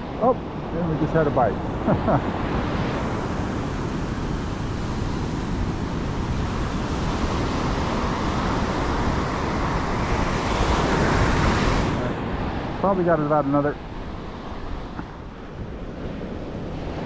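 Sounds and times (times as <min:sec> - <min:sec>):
surf washing on beach: 0:00.0 - 0:17.0
wind rumbling on microphone: 0:00.0 - 0:17.0.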